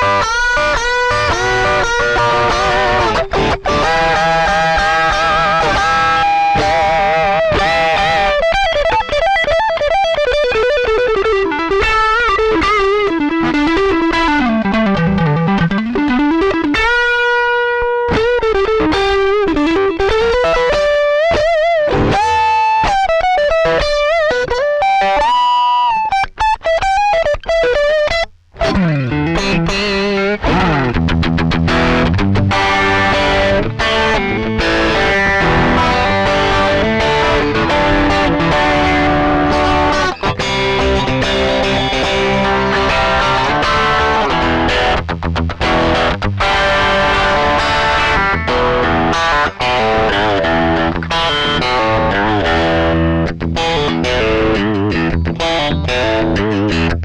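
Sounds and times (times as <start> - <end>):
overdriven electric guitar: 0.0 - 57.0.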